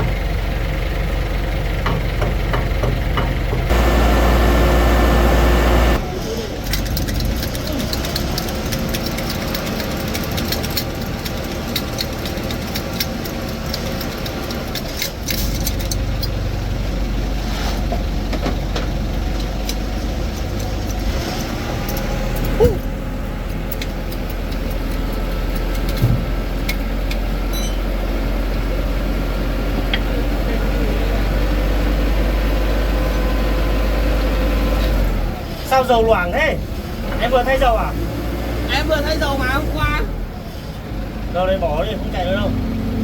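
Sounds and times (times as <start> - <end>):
vehicle engine idling: 0.0 - 43.0.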